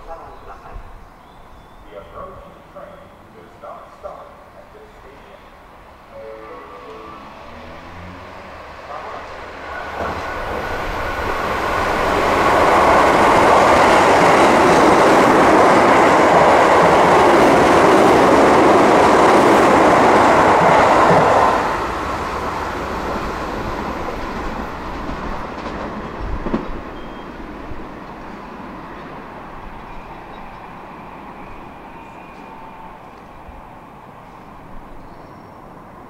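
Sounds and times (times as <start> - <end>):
electric train passing at speed: 0.0 - 36.0.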